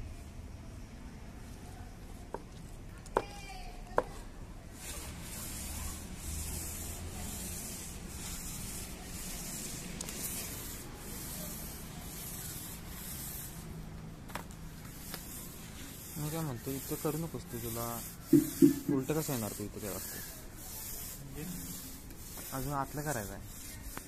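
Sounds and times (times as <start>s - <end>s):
paint roller on concrete: 2.0s - 24.0s.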